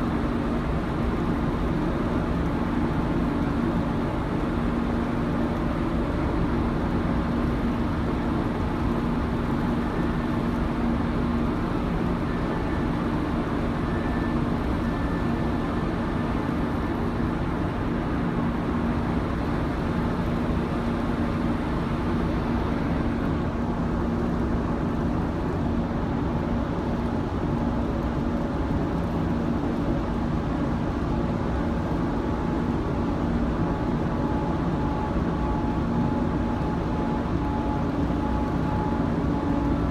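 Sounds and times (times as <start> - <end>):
machinery hum and rumble: 0.0 - 39.9.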